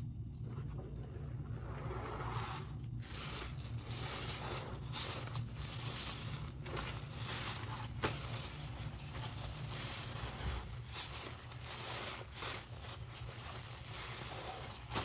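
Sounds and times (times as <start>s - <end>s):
steady low hum: 0.0s - 15.0s
sponge squelching in foamy water: 0.4s - 15.0s.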